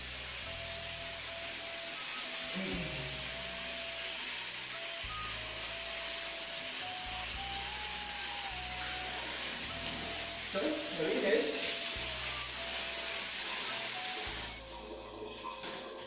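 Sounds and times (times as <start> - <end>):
shower water spraying: 0.0 - 15.7
soft background music: 0.0 - 16.0.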